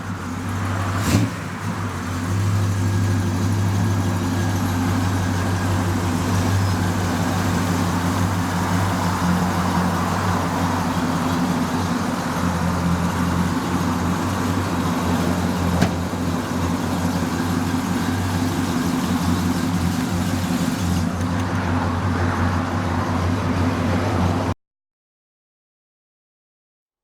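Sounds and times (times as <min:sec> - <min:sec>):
car engine idling: 0:00.0 - 0:24.4.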